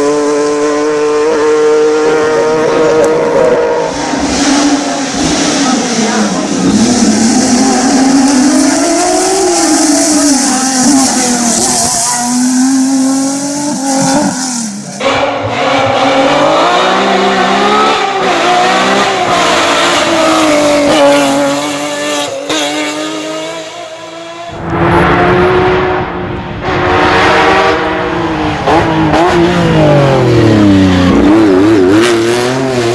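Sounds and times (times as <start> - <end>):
car engine revving hard: 0.0 - 32.9.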